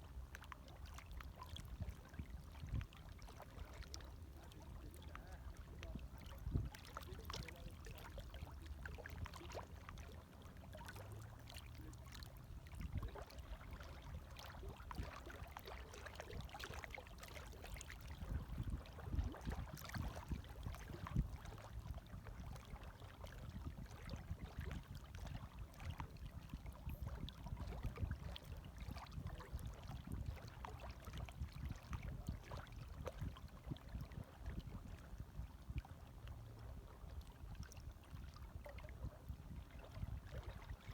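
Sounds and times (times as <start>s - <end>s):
small waves lapping: 0.0s - 40.9s.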